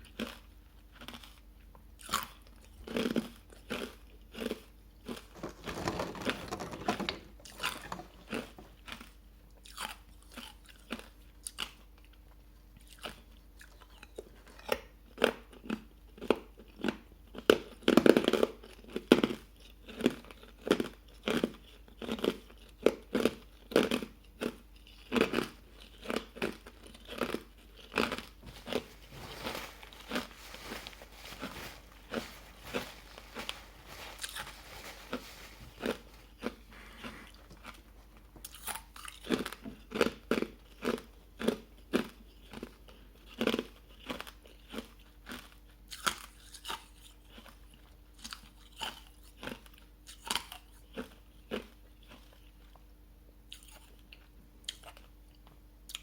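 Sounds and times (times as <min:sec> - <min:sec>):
ice crunching while chewed: 0:00.0 - 0:52.8.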